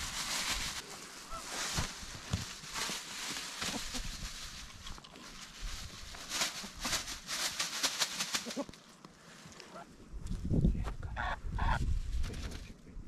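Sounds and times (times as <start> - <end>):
chickens scratching and rustling: 0.0 - 9.9, 11.6 - 12.8.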